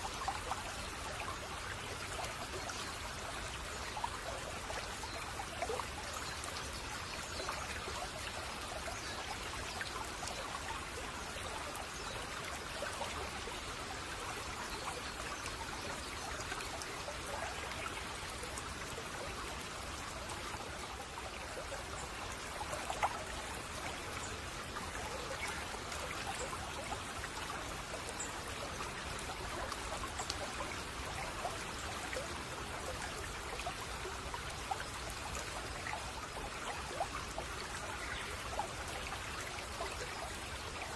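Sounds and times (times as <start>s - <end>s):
babbling stream splashing: 0.0s - 40.9s.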